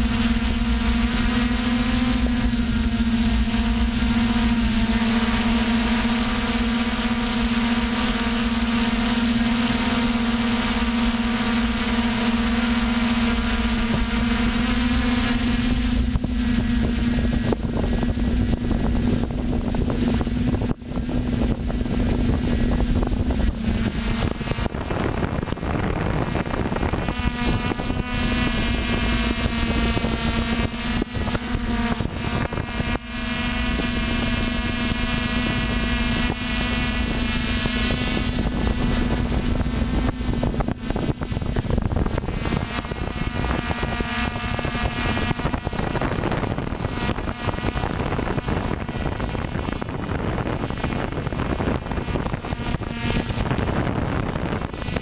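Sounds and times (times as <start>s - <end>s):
drone propellers whining: 0.0s - 55.0s
wind noise on microphone: 0.0s - 55.0s.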